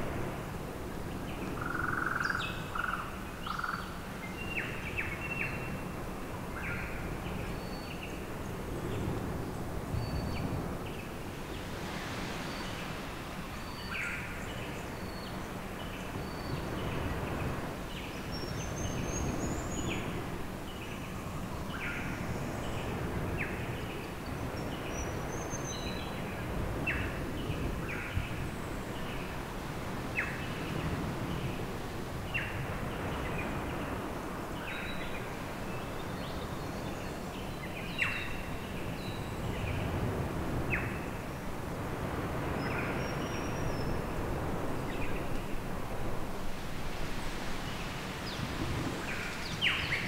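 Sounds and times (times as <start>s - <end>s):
wild birds chirping: 0.6s - 41.4s, 42.4s - 50.0s.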